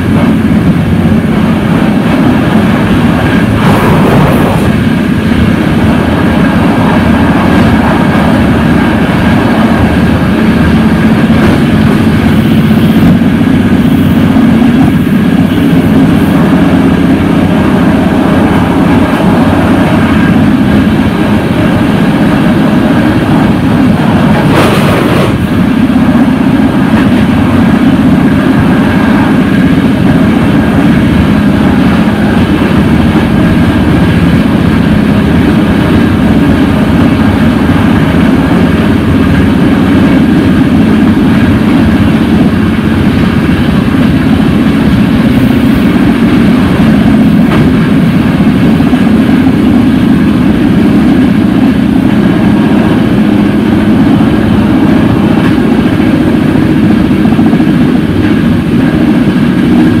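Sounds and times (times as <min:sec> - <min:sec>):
train wheels rumbling on rails: 0:00.0 - 1:00.0.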